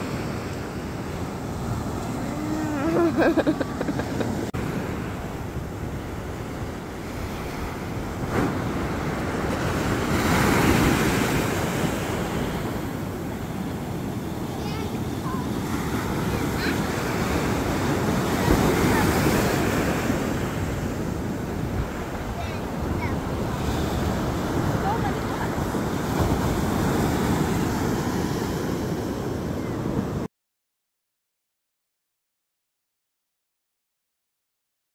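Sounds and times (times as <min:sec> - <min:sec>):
ocean surf breaking: 0:00.0 - 0:30.2.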